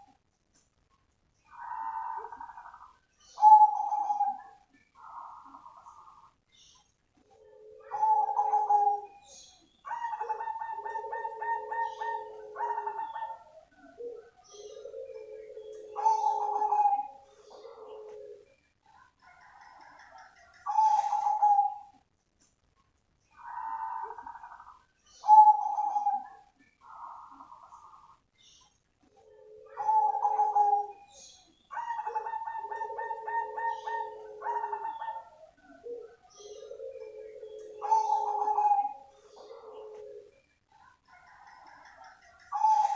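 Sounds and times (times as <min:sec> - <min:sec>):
dove cooing: 0:01.4 - 0:06.4, 0:07.2 - 0:09.3, 0:09.9 - 0:22.0, 0:23.3 - 0:28.2, 0:29.1 - 0:42.9.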